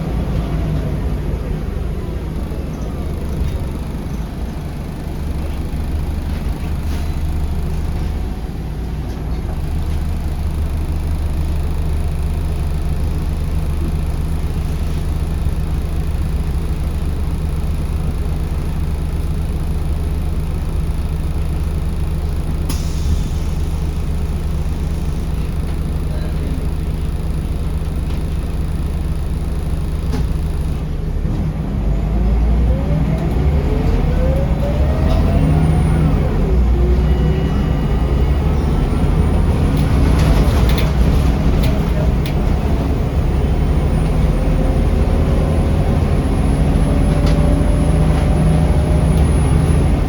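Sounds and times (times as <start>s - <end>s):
bus diesel engine humming: 0.0s - 50.0s.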